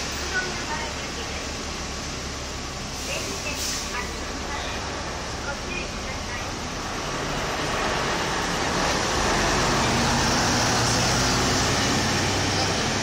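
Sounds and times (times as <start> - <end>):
coach diesel engine accelerating: 0.0 - 13.0
street traffic: 0.0 - 13.0.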